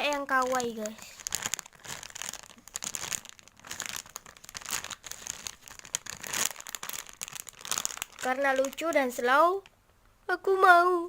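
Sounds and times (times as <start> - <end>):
plastic crinkling squishy toy: 0.0 - 9.8.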